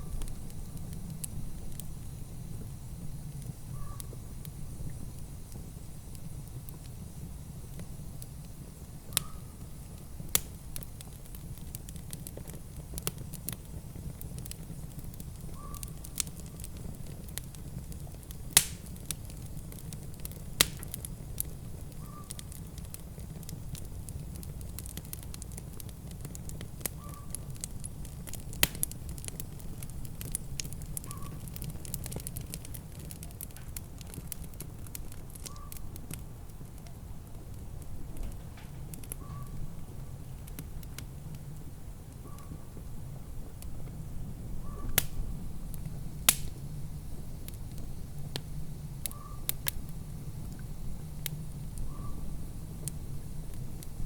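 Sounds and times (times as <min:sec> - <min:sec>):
sharp fire pops: 0:00.0 - 0:54.0
wood fire crackling: 0:00.0 - 0:54.0.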